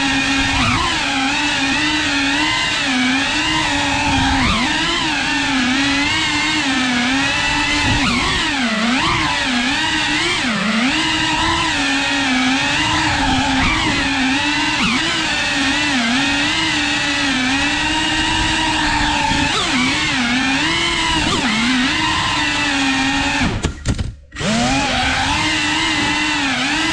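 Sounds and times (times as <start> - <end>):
drone propellers buzzing: 0.0 - 26.9.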